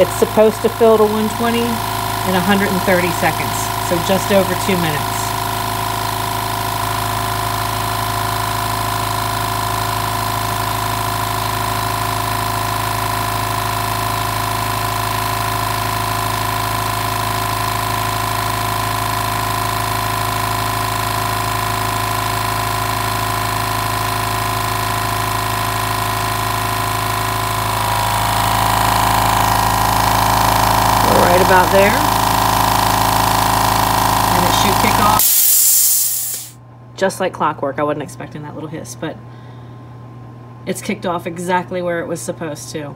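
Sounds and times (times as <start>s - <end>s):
air compressor running: 0.0s - 36.6s.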